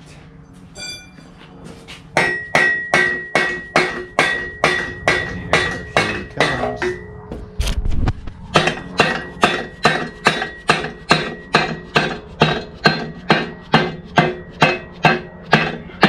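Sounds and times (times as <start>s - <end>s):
hammer beating on metal: 0.8s - 1.2s, 2.1s - 7.1s, 8.5s - 16.0s.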